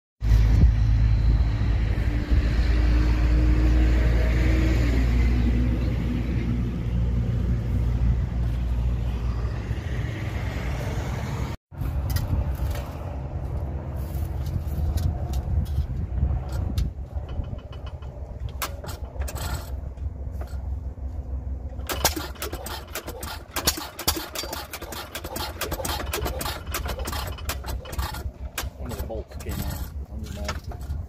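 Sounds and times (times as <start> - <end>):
engine running: 0.2 - 31.0.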